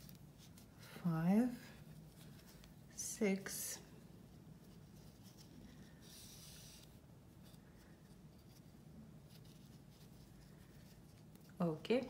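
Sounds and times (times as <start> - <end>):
yarn rustling over crochet hook: 0.0 - 12.0.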